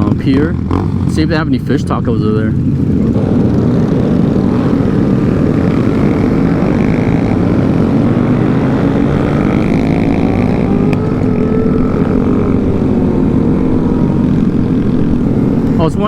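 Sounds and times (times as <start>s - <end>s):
mini motorcycle engines: 0.0s - 16.0s
motorcycle revving: 0.0s - 16.0s
wind noise on microphone: 2.6s - 16.0s.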